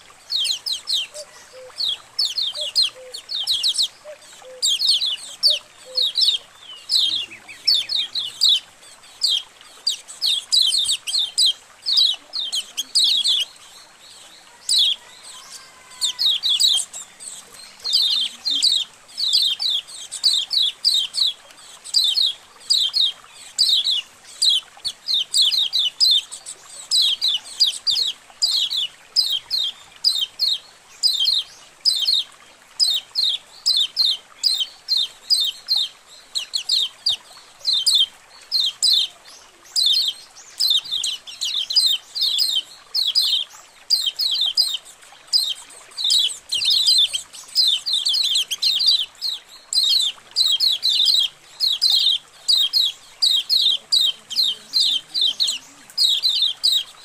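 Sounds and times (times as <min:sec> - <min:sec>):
birds chirping together: 0:00.0 - 0:57.0.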